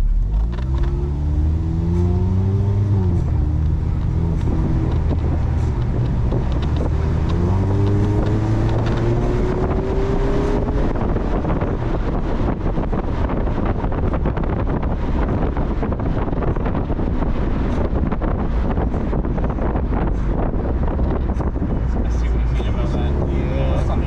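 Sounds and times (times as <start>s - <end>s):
car engine accelerating: 0.0s - 24.0s
wind and road noise: 0.0s - 24.0s.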